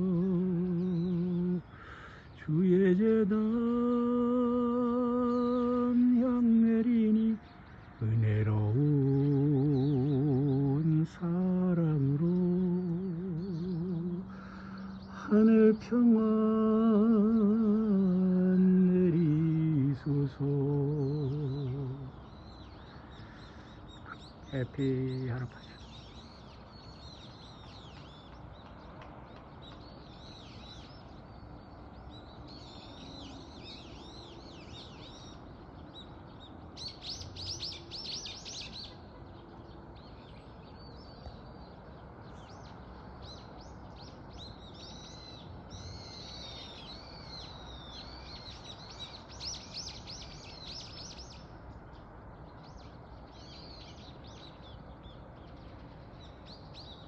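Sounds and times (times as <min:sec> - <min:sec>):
outdoor background hiss: 0:00.0 - 0:57.0
small birds chirping: 0:00.0 - 0:57.0.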